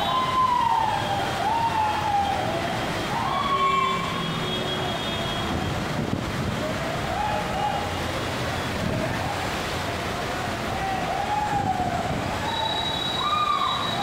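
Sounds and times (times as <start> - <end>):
cars driving through floodwater: 0.0 - 14.0
heavy rain: 0.0 - 14.0.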